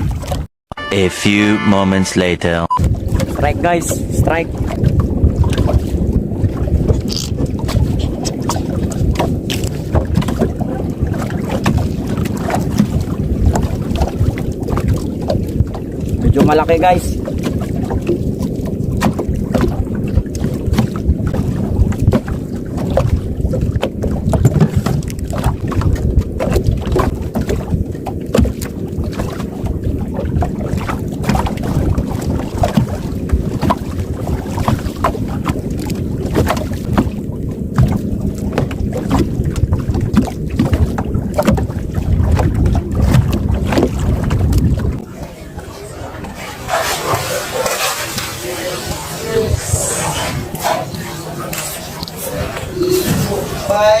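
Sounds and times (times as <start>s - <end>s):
wind buffeting microphone: 2.8s - 54.0s.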